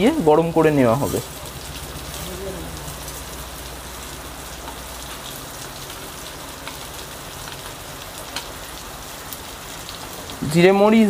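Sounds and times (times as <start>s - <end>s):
seeds crackling in hot pan: 0.0s - 11.0s.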